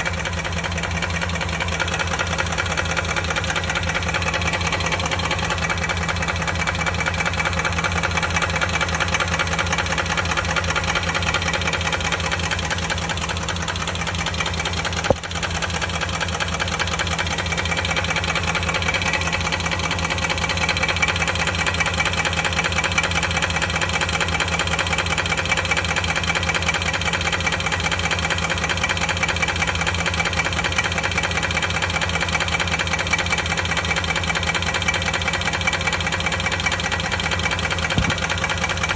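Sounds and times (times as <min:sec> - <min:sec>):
fast even engine tapping: 0:00.0 - 0:29.6, 0:30.2 - 0:38.9
car engine idling: 0:00.0 - 0:38.9.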